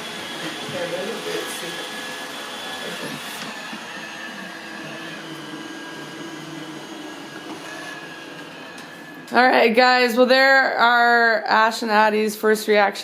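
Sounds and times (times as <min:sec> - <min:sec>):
robot vacuum whirring: 0:00.0 - 0:10.6.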